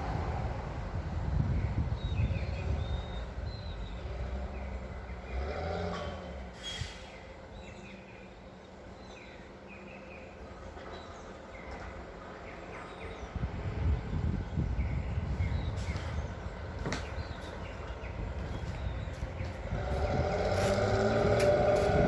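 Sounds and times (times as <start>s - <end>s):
heavy vehicle engine rumble: 0.0s - 22.0s
birds chirping: 1.6s - 5.6s, 7.1s - 22.0s.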